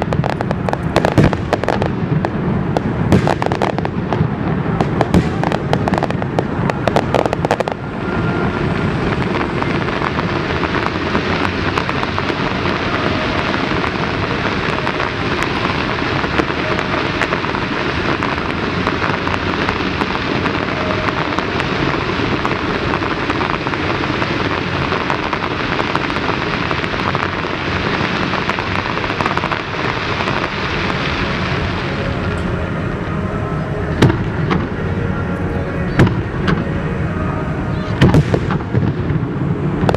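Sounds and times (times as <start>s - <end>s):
fireworks bangs: 0.0s - 39.9s
fireworks crackling and rumbling: 0.0s - 39.9s.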